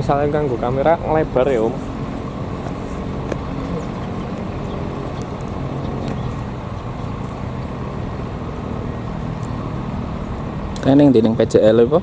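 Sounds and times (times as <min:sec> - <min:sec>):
locomotive engine droning: 0:00.0 - 0:12.0.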